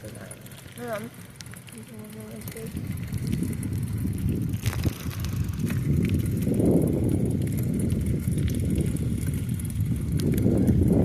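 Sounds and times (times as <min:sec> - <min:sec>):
bike clicks and rattles: 0:00.0 - 0:11.0
rumble of bicycle tyres: 0:00.0 - 0:11.0
wind on microphone: 0:01.9 - 0:11.0.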